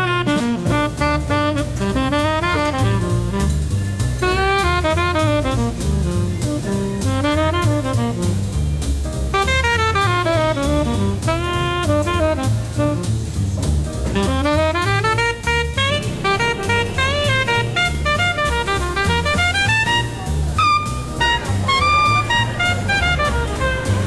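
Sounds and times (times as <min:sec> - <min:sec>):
drum kit: 0:00.0 - 0:24.0
saxophone lead: 0:00.0 - 0:24.0
walking bass: 0:00.0 - 0:24.0.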